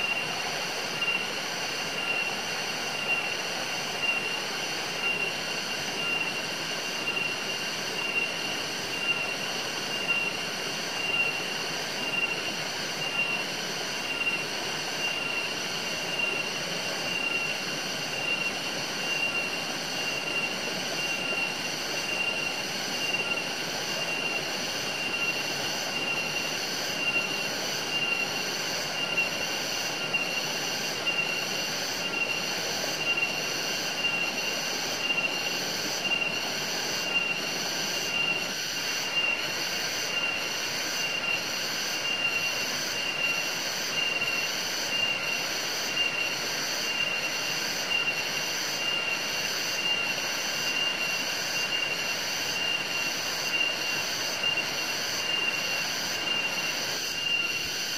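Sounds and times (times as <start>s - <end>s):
insects chirping: 0.0s - 57.9s
insects whining: 0.0s - 57.9s.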